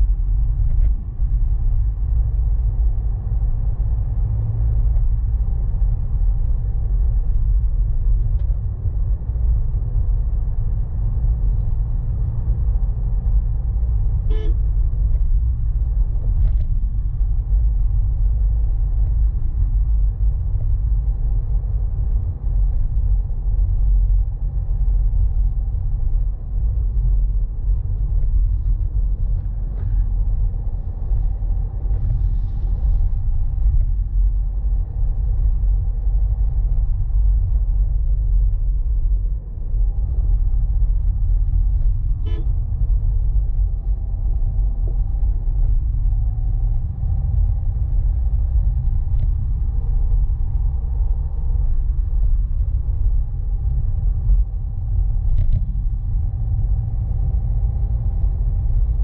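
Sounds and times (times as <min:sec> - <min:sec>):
vehicle driving low rumble: 0:00.0 - 0:59.0.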